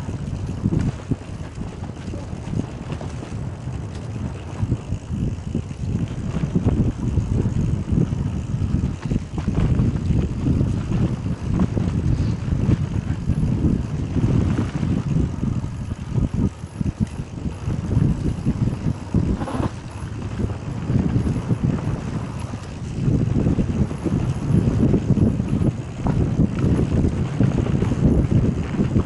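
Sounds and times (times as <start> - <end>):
bike knocking and rattling: 0.0 - 29.0
wind buffeting microphone: 0.0 - 29.0.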